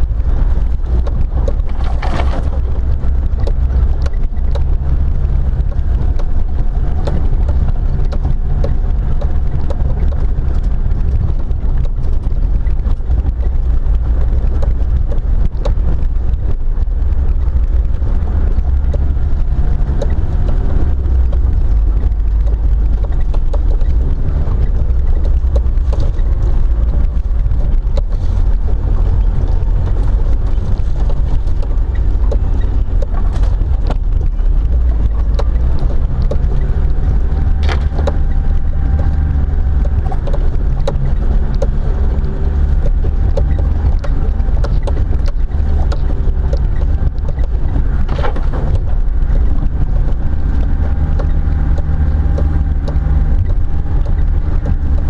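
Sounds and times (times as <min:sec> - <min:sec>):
car engine and tyres rumbling: 0:00.0 - 0:55.0
wind buffeting microphone: 0:00.0 - 0:55.0
small knocks and clicks: 0:00.2 - 0:55.0.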